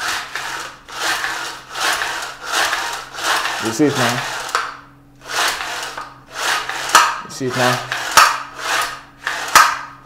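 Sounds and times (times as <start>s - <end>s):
starter rope rasping: 0.0s - 10.0s.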